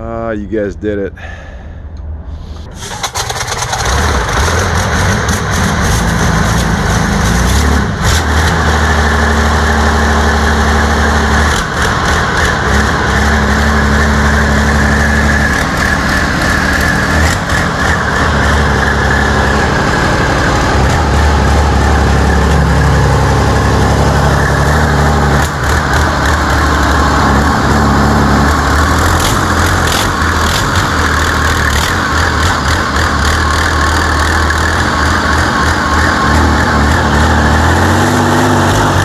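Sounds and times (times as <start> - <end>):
diesel engine starting and running: 1.2 - 39.0.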